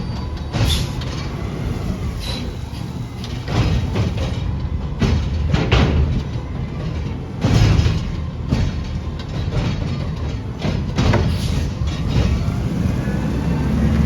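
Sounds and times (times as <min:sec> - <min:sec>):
metallic clanks and bangs: 0:00.0 - 0:13.0
garbage truck diesel engine rumble: 0:00.0 - 0:14.0.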